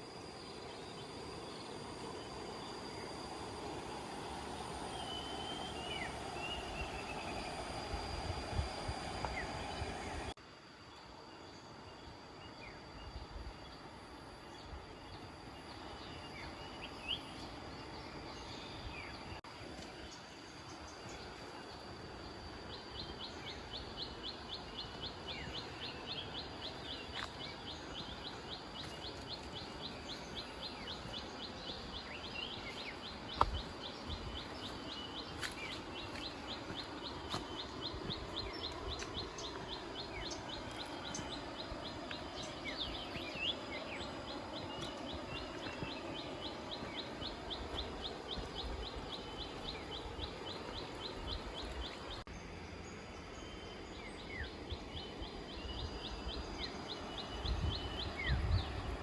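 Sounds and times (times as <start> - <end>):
steady high hum: 0.0 - 59.0
wild birds chirping: 0.0 - 59.0.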